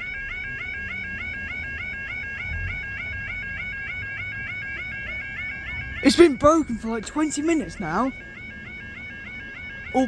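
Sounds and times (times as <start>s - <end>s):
electronic yodel alarm: 0.0s - 10.0s.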